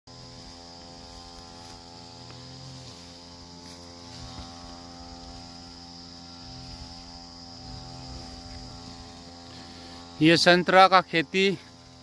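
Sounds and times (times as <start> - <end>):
distant brush cutter engine: 0.1 - 12.0
high-pitched hum: 0.1 - 12.0.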